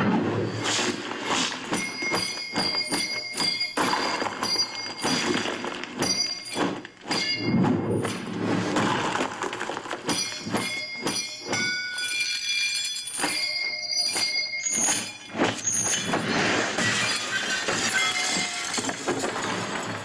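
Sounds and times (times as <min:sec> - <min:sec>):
fight scene hits and crashes: 0:00.0 - 0:11.8, 0:14.1 - 0:20.0.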